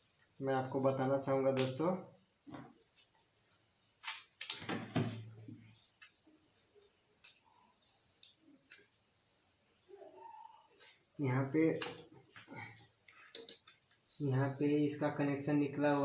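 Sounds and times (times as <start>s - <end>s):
cricket trilling: 0.0s - 16.0s.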